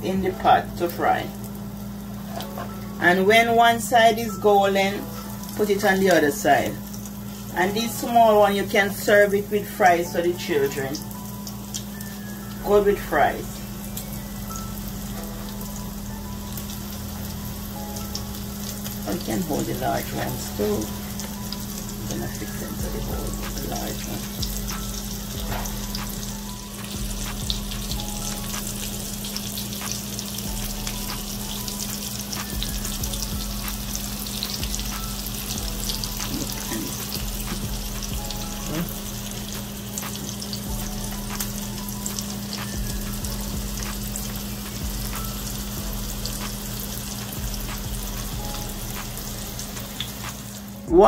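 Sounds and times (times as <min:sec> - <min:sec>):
patties sizzling in hot oil: 0:00.0 - 0:51.0.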